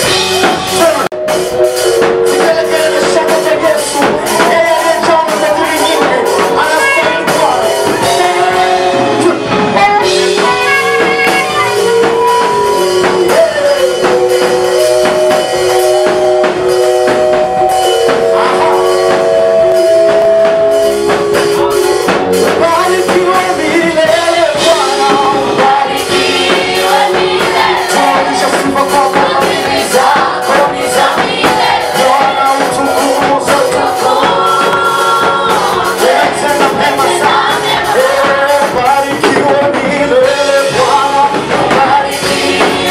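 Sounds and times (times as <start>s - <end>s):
worship music with singing: 0.0s - 42.9s.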